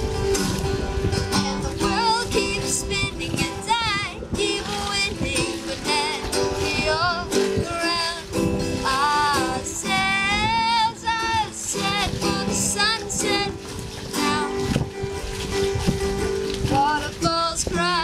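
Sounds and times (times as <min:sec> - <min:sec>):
acoustic guitar strumming: 0:00.0 - 0:18.0
boy singing with vibrato: 0:01.4 - 0:14.9, 0:16.7 - 0:18.0.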